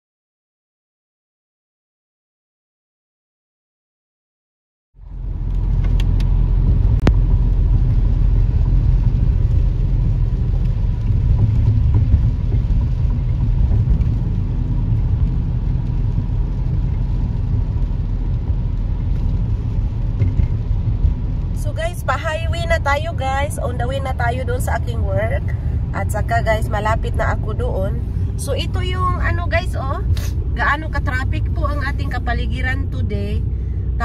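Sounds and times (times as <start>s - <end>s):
car driving on wet road: 5.0s - 34.0s.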